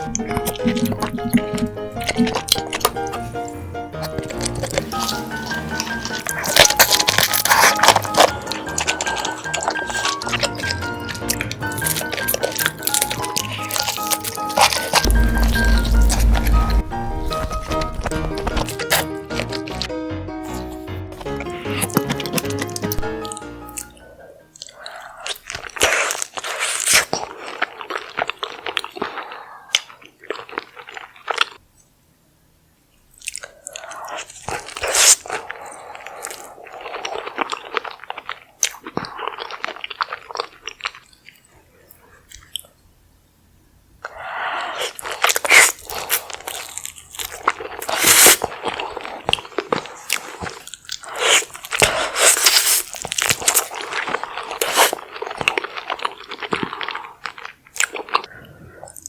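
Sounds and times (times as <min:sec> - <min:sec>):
biting and crunching food: 0:00.0 - 0:19.9, 0:20.5 - 0:31.6, 0:33.1 - 0:42.8, 0:44.0 - 0:59.0.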